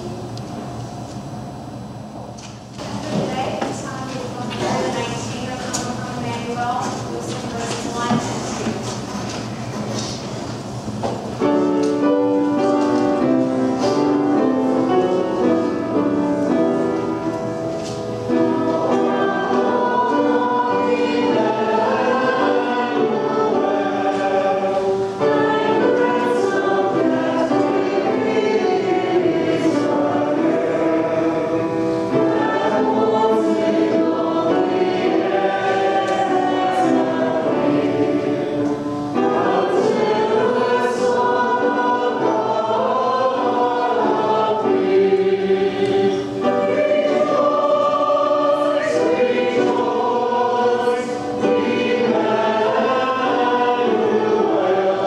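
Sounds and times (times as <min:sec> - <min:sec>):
congregation singing a hymn: 0:03.0 - 0:55.0.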